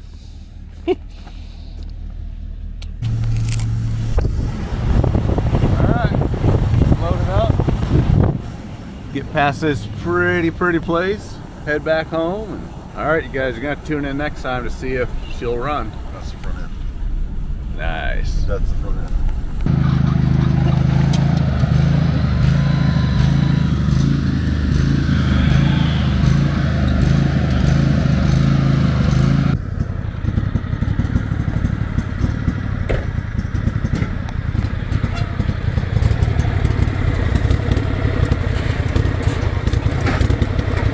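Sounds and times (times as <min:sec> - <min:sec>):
riding lawn mower engine running: 0:00.0 - 0:17.9, 0:19.1 - 0:40.9.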